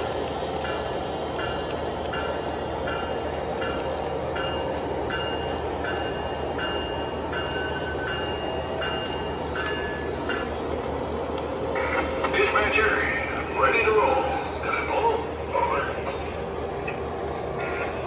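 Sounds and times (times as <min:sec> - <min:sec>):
model train wheels and motors: 0:00.0 - 0:18.0.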